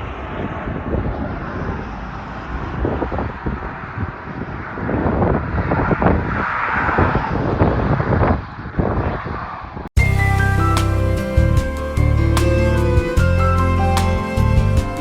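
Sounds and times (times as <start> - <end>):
wind buffeting microphone: 0.0 - 12.3
highway traffic rumble: 0.0 - 15.0.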